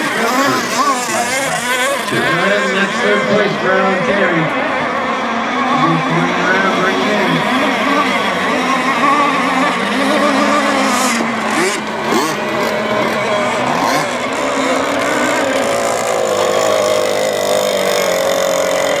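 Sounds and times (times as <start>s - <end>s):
model boat engines racing: 0.0s - 19.0s.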